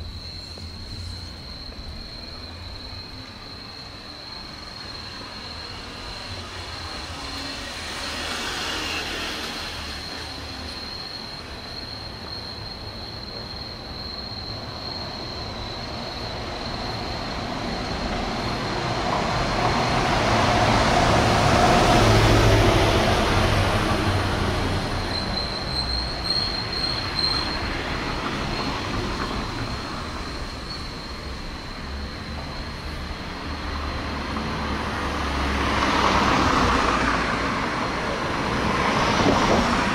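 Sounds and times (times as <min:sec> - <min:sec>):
bus driving past: 0:00.0 - 0:39.9.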